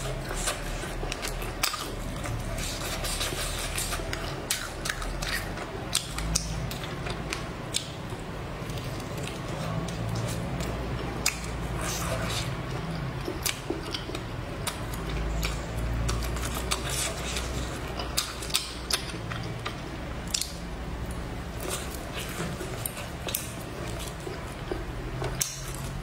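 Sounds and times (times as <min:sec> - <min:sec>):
person chewing with wet smacks: 0:00.0 - 0:26.0.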